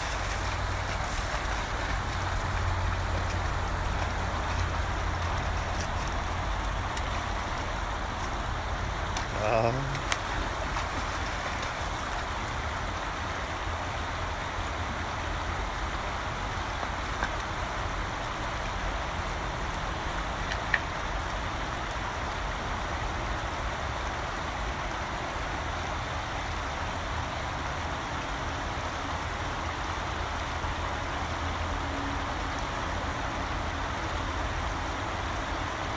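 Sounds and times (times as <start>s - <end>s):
creek water rushing over stones: 0.0s - 35.9s.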